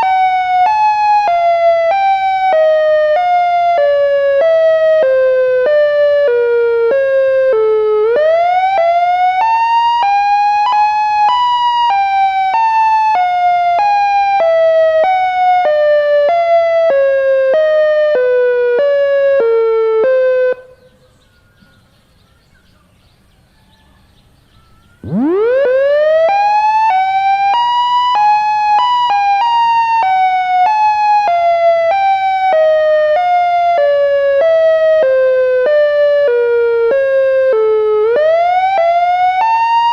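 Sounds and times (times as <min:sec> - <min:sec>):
siren wailing: 0:00.0 - 0:20.9, 0:24.6 - 0:39.9.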